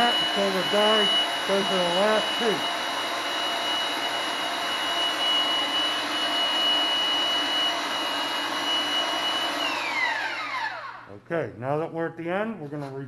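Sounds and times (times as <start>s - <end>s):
pipe threading machine motor whine: 0.0s - 11.1s.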